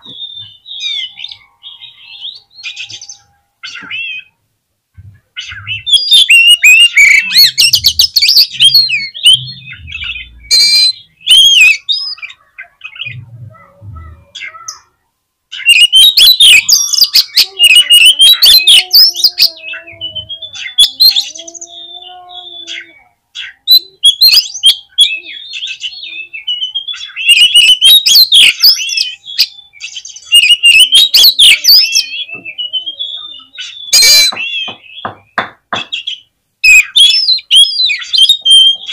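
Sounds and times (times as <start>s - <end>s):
bird singing: 0.0s - 4.4s, 5.0s - 38.9s.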